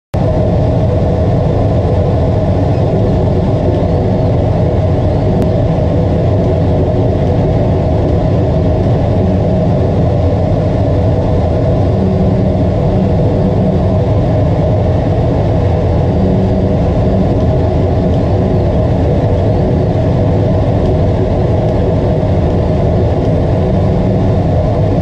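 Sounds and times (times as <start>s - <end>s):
laser cutter humming: 0.3s - 25.0s.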